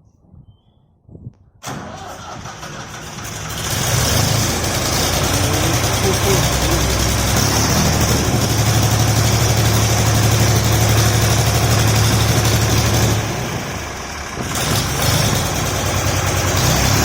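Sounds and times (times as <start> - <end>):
tractor engine idling: 1.6 - 17.0.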